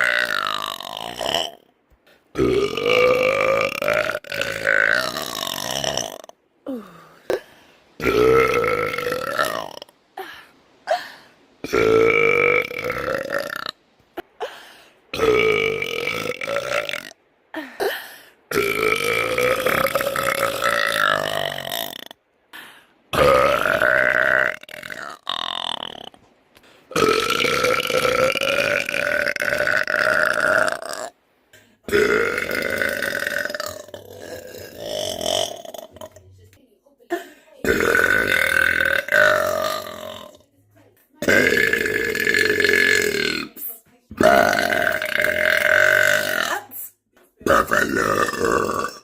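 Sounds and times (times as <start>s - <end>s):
woman burping: 2.3s - 26.2s, 26.9s - 31.1s, 31.9s - 36.3s, 37.1s - 40.4s, 41.2s - 49.0s.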